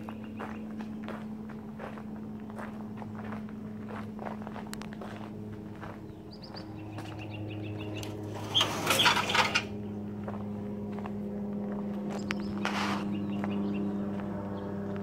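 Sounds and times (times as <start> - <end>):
footsteps on gravel: 0.0 - 7.5, 10.1 - 15.0
low hum: 0.0 - 15.0.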